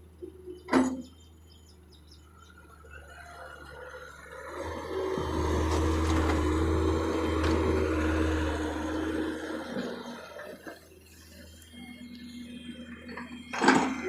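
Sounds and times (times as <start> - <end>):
heavy machine engine drone: 0.0 - 14.0.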